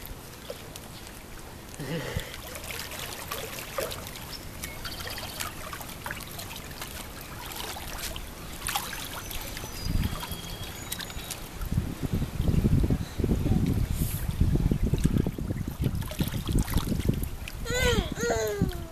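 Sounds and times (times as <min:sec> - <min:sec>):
pool water splashing: 0:00.0 - 0:18.9.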